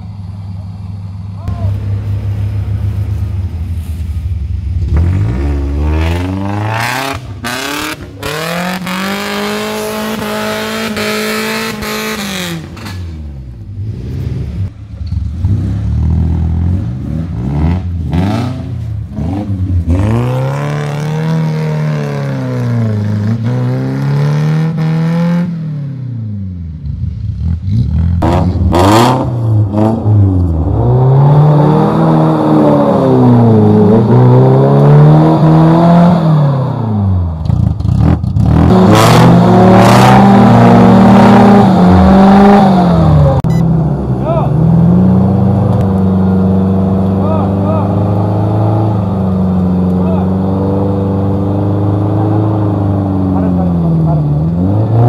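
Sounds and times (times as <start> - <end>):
engine revving: 4.7 - 55.0.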